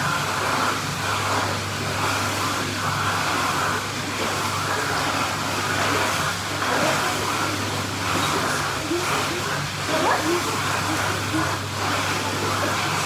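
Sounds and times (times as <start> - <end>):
pool water churning: 0.0 - 13.0.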